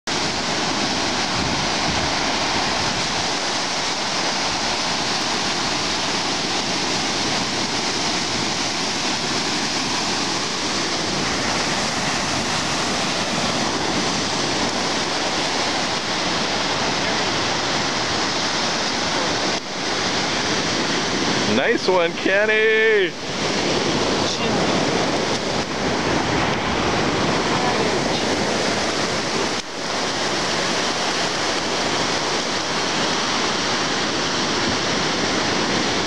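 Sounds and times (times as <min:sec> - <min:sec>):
surf breaking on beach: 0:00.1 - 0:36.0.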